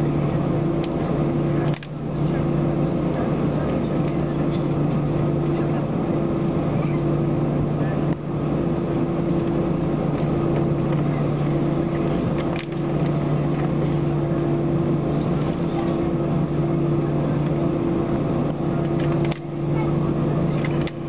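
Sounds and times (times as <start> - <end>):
airplane cabin engine drone: 0.0 - 21.0.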